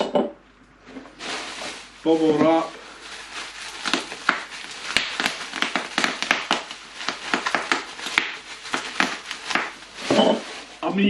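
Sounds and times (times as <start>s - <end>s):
bubble wrap popping: 1.1s - 11.0s.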